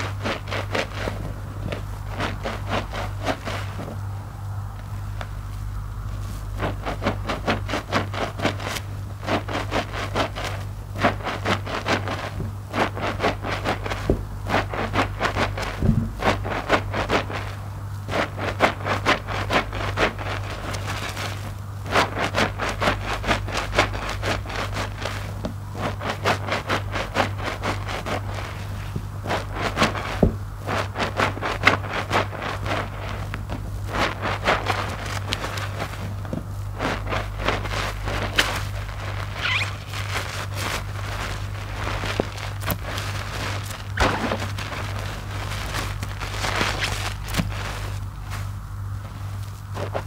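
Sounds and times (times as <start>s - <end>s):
low steady hum: 0.0s - 50.0s
wet foam squelching and crackling: 0.0s - 50.0s.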